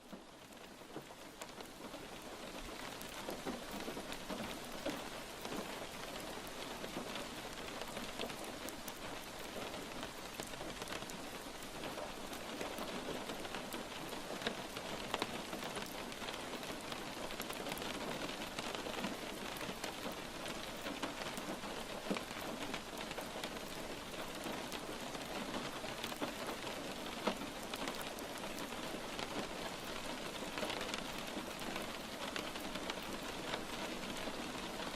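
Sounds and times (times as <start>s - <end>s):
steady rain with drop taps: 0.0s - 34.9s.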